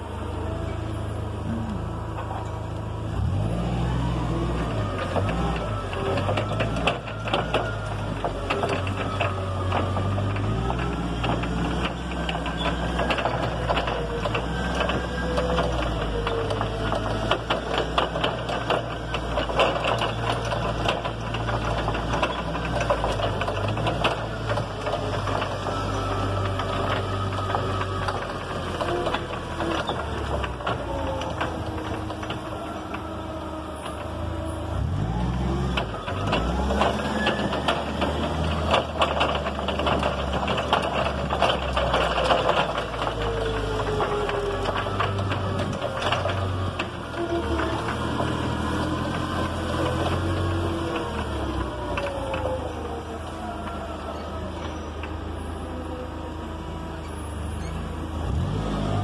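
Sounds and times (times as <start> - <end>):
forklift motor whine: 0.0 - 59.0.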